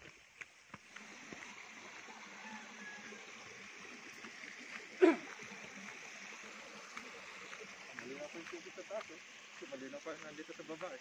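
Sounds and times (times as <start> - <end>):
mountain stream flowing: 0.0 - 11.0.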